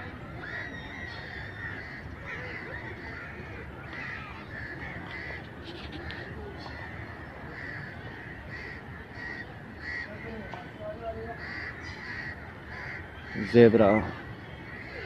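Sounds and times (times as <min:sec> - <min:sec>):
low background noise: 0:00.0 - 0:15.0
birds calling: 0:00.4 - 0:15.0.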